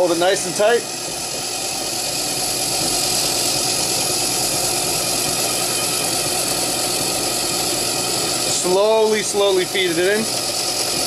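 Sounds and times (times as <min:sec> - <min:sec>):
drill press running with hiss: 0:00.0 - 0:11.0.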